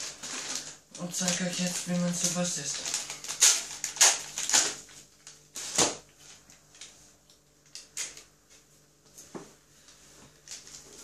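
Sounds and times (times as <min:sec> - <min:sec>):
plastic packaging crinkling and tearing: 0:00.0 - 0:08.3, 0:10.3 - 0:11.0.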